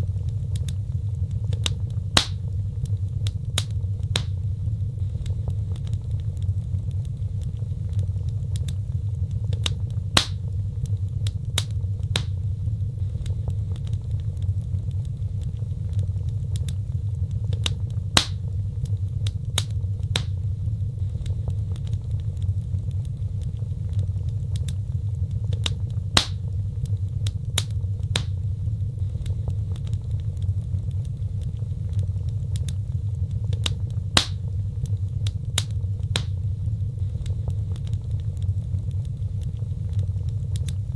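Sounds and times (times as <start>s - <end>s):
fire crackles and pops: 0.0s - 40.9s
fire flames rumbling: 0.0s - 40.9s.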